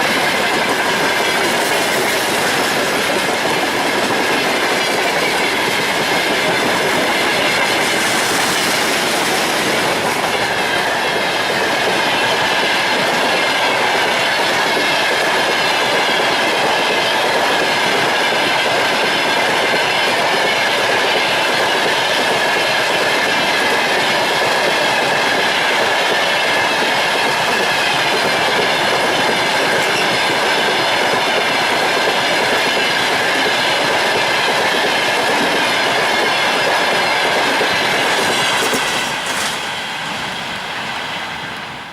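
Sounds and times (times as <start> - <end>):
freight train wheels clattering: 0.0 - 41.9.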